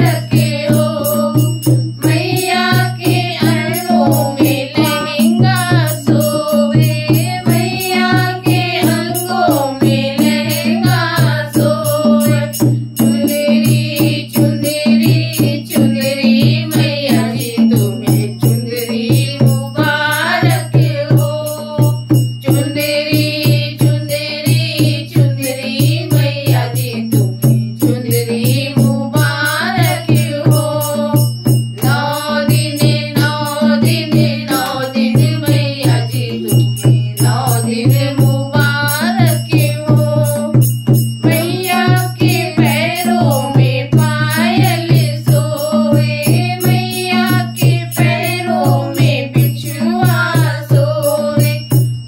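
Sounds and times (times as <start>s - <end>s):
woman singing: 0.0s - 51.8s
barrel drum beat: 0.0s - 52.0s.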